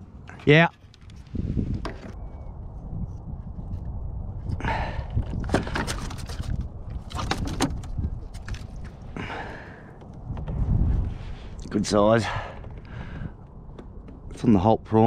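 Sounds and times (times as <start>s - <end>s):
steady low rumble: 1.0s - 15.0s.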